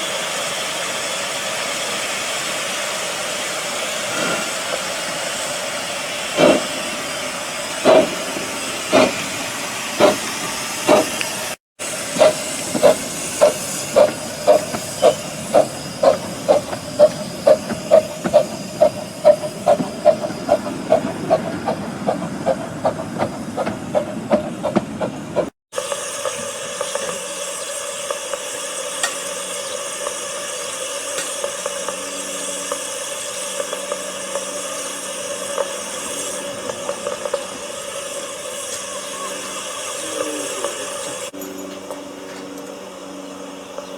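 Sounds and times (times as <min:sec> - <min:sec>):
steam locomotive chuffing: 0:00.0 - 0:43.9.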